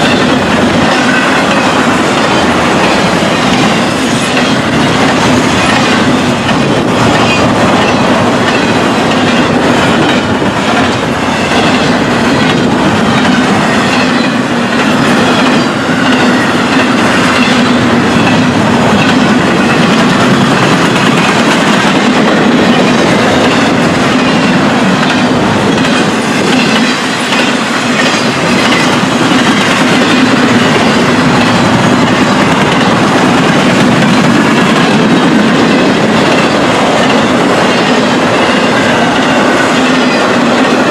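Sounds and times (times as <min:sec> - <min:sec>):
clickety-clack over rail joints: 0:00.0 - 0:40.9
train wheels rumbling on rails: 0:00.0 - 0:40.9.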